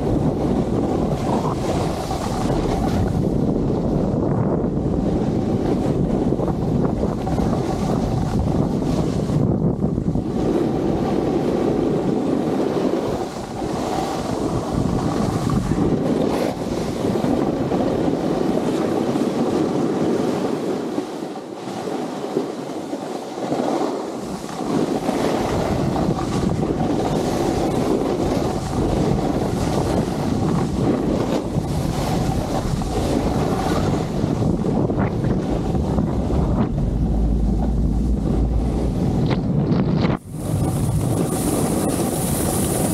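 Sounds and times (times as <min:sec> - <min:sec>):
wind buffeting camera microphone: 0:00.0 - 0:42.9.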